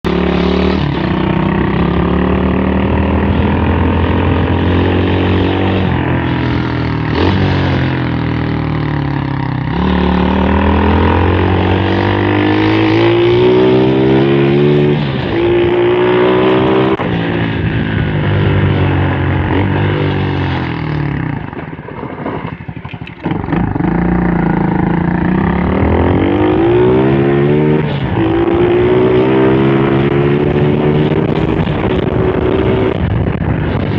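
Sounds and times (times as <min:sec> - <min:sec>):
motorbike engine revving: 0:00.1 - 0:33.9.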